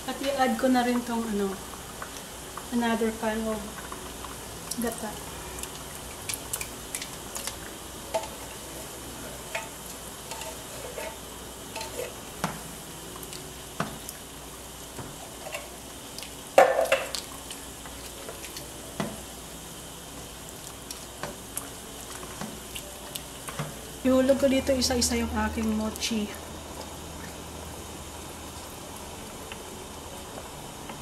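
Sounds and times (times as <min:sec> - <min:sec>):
soup simmering with a hiss: 0:00.0 - 0:31.0.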